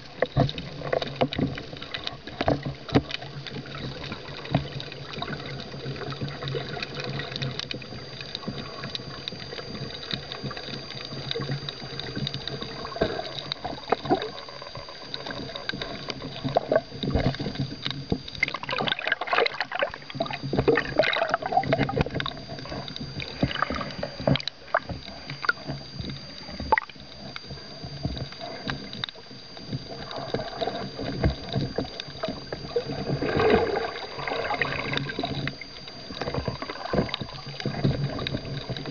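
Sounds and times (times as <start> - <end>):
faint high whine: 0.0 - 38.9
underwater rushing water and bubbles: 0.0 - 38.9.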